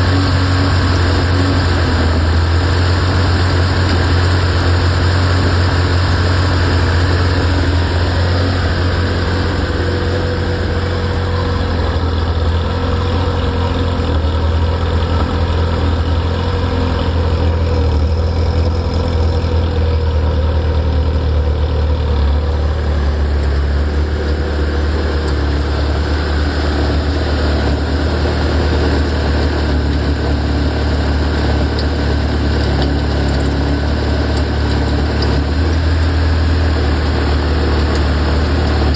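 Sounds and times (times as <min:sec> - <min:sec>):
abnormal engine noise: 0:00.0 - 0:38.9
car engine idling: 0:00.0 - 0:38.9.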